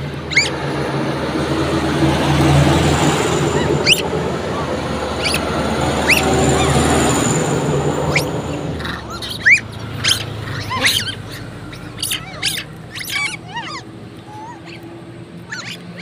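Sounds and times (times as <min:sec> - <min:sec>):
macaques squealing: 0:00.2 - 0:00.9, 0:01.7 - 0:16.0.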